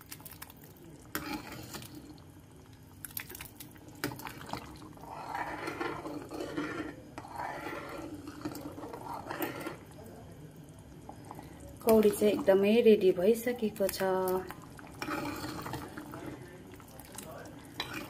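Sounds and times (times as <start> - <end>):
soup sloshing: 0.0 - 10.0, 11.0 - 18.0.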